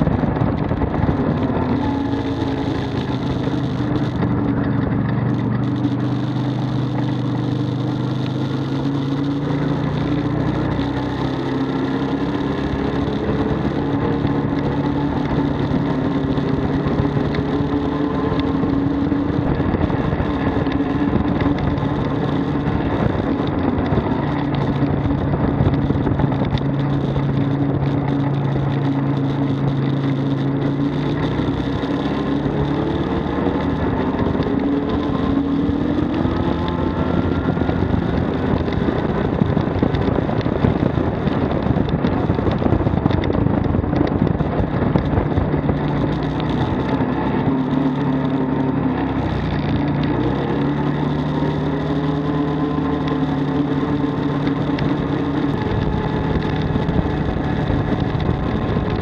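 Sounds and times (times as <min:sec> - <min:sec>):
engine low rumble: 0:00.0 - 0:59.0.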